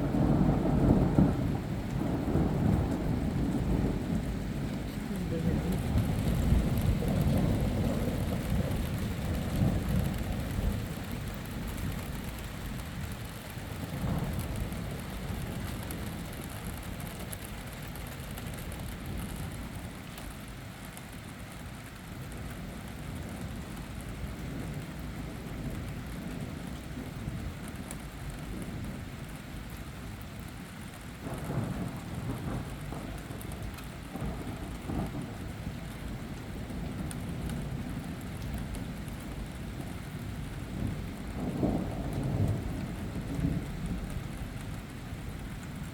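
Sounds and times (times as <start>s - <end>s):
thunder rumbling: 0.0s - 20.5s, 22.2s - 45.9s
steady rain: 0.0s - 45.9s.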